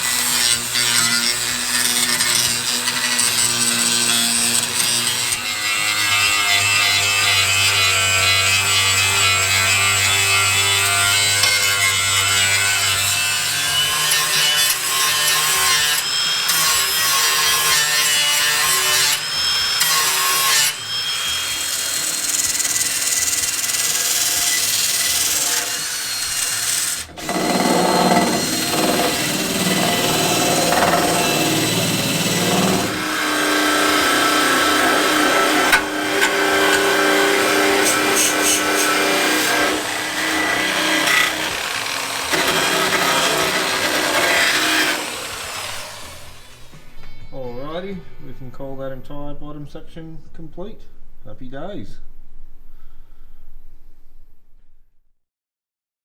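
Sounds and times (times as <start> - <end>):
power tools on sheet steel: 0.0 - 46.9.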